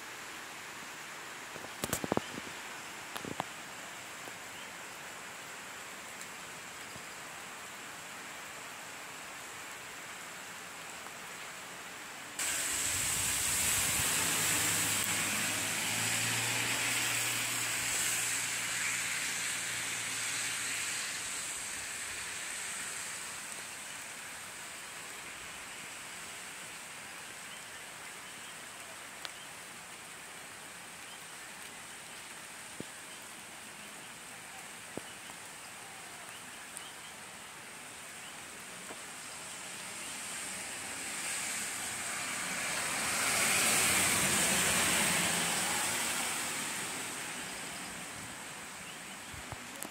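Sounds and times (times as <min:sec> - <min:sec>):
rain hissing: 0:00.0 - 0:49.9.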